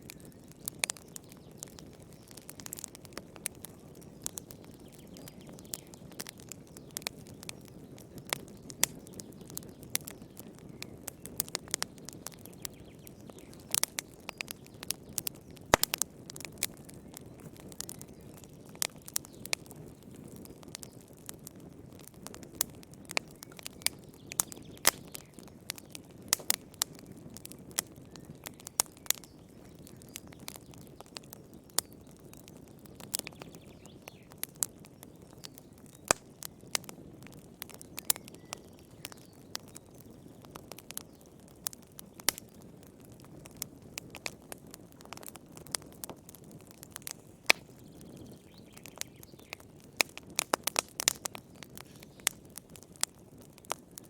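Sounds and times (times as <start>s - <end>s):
low rush of flames: 0.0s - 38.8s, 39.5s - 54.0s
wood fire crackling and popping: 0.0s - 54.0s.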